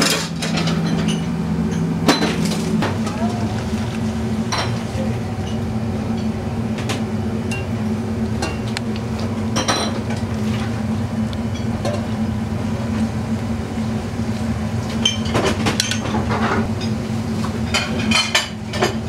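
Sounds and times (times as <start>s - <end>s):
kitchen drone: 0.0s - 19.0s.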